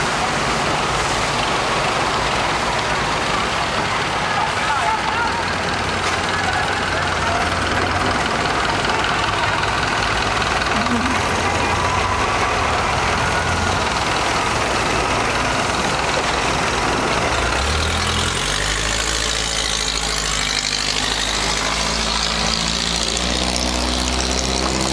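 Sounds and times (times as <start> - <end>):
boat engine running: 4.9 - 24.9.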